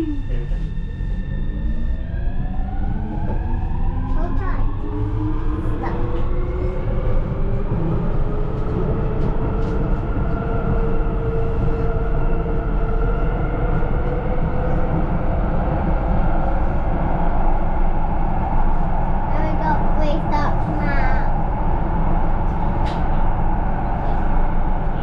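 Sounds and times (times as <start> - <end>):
electric whine of train: 0.0 - 25.0
wheels rumbling on rail: 0.0 - 25.0.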